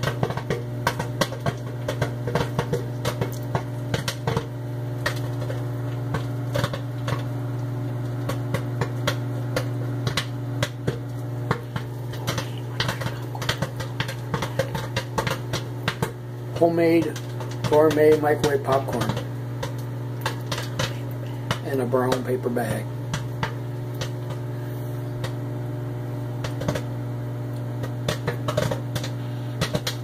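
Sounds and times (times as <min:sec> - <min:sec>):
microwave oven humming: 0:00.0 - 0:30.0
popcorn popping in paper bag: 0:00.0 - 0:30.0.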